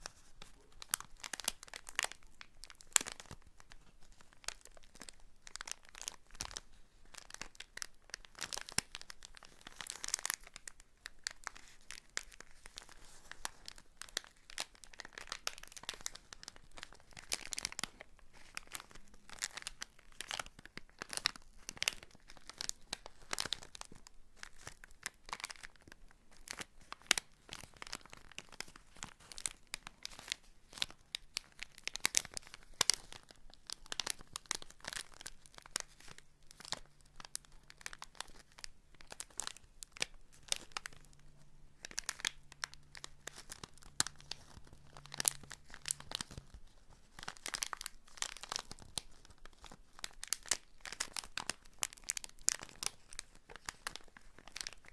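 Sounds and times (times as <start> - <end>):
crinkly material crackling: 0.0 - 54.9.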